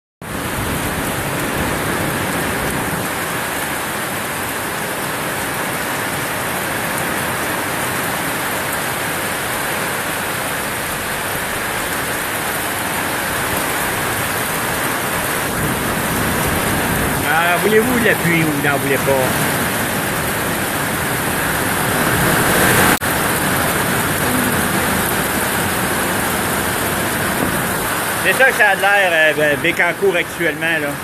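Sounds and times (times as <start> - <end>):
heavy rain pouring: 0.2 - 31.0.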